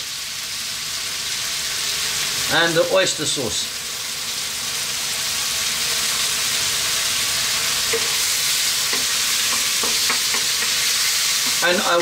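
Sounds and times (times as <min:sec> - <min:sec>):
meat and onion sizzling in a wok: 0:00.0 - 0:12.0.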